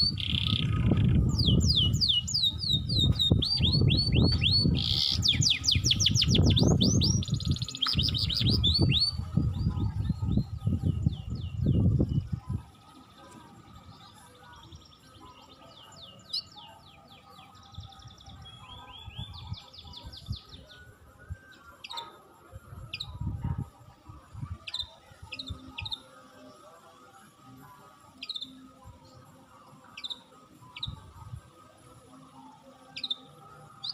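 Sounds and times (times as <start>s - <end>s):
songbirds trilling: 0.0s - 33.9s.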